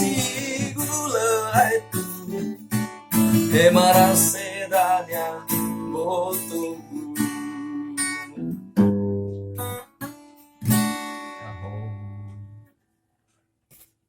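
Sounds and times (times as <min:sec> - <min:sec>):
acoustic guitar strumming chords: 0:00.0 - 0:12.7.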